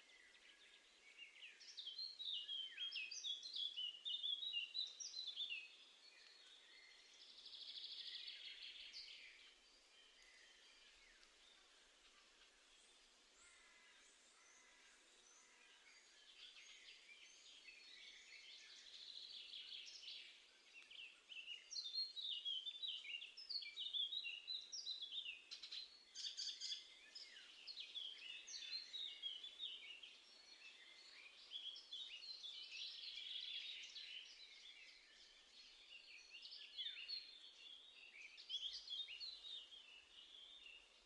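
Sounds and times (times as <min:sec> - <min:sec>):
songbirds singing and calling: 0:00.0 - 0:41.0.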